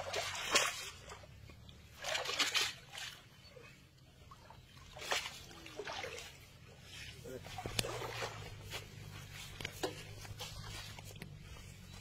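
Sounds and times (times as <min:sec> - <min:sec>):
water sloshing from wet net: 0:00.0 - 0:12.0.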